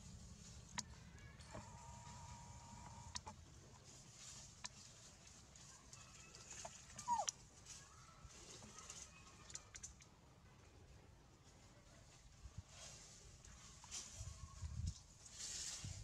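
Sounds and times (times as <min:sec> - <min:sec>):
faint outdoor background noise: 0:00.0 - 0:16.0.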